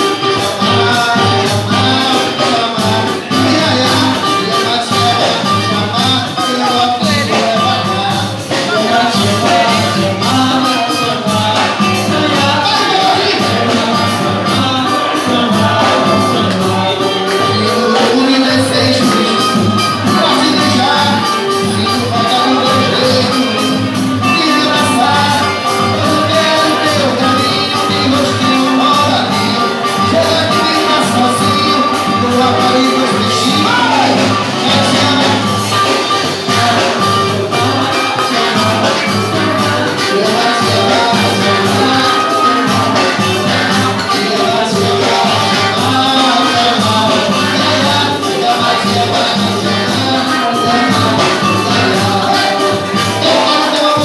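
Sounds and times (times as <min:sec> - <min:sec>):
fast percussion beat: 0:00.0 - 0:54.0
live band playing latin music: 0:00.0 - 0:54.0.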